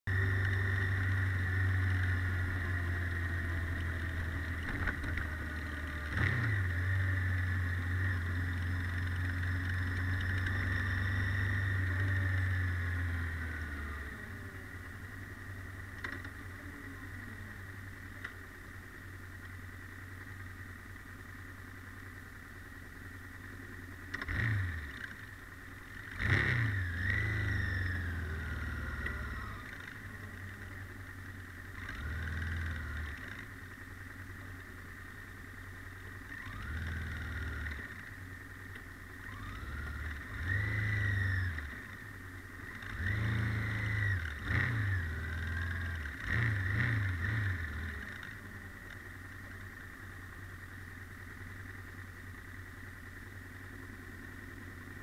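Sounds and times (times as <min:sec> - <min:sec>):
motorcycle engine running: 0:00.1 - 0:55.0.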